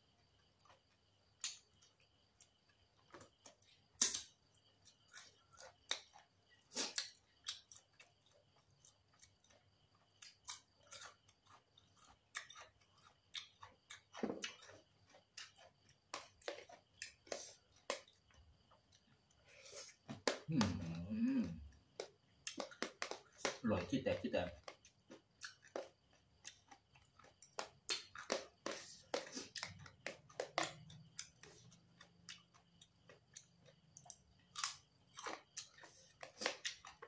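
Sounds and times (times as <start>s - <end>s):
chewing with crunches: 0.0s - 37.0s.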